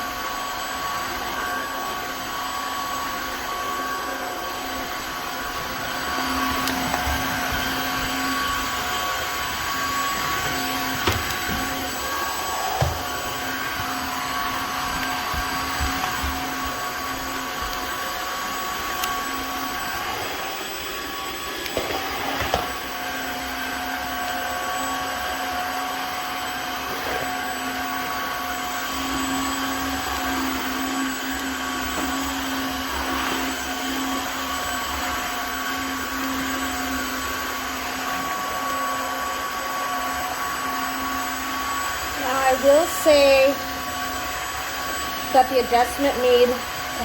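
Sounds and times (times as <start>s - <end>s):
vacuum mop motor whine: 0.0s - 47.0s.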